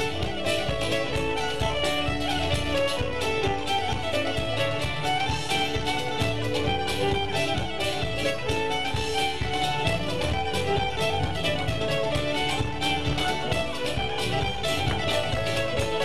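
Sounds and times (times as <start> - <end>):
fiddle playing a tune: 0.0 - 16.0
guitar: 0.0 - 16.0.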